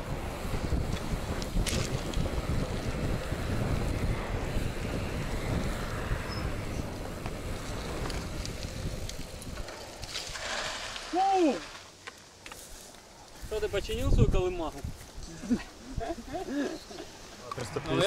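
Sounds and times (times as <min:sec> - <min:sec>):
wind buffeting microphone: 0:00.0 - 0:10.5, 0:13.3 - 0:18.0
road rumble: 0:00.0 - 0:13.6, 0:15.0 - 0:18.0.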